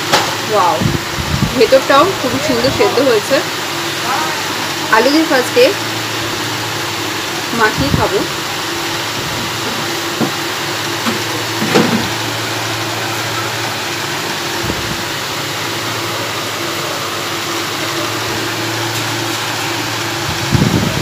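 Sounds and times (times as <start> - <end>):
mechanical drone with hum: 0.0 - 21.0.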